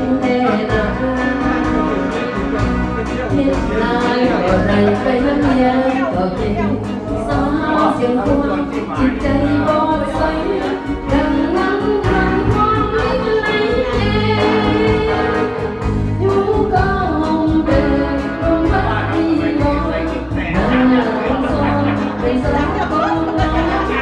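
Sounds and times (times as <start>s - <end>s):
woman singing into a microphone: 0.0s - 2.4s, 3.2s - 24.0s
karaoke backing track: 0.0s - 24.0s.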